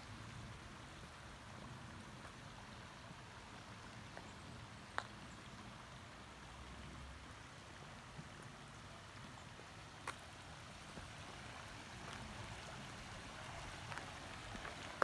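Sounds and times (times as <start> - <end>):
shallow river running over stones: 0.0 - 15.0.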